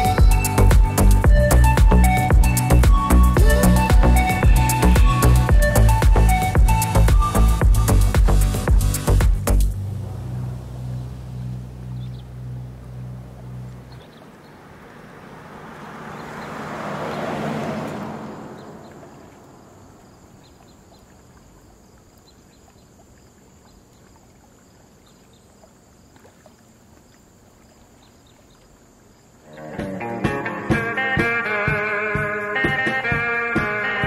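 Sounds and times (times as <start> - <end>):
boat passing on water: 0.0 - 34.0
faint outdoor background: 0.0 - 34.0.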